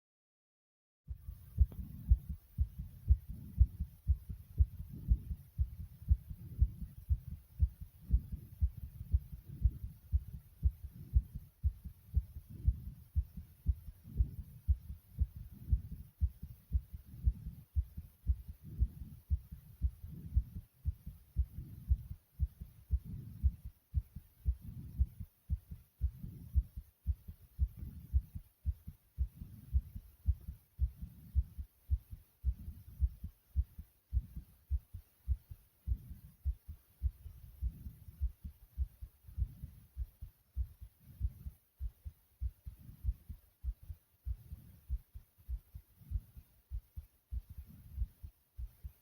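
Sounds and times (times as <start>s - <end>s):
fast heartbeat thumps: 1.1s - 49.0s.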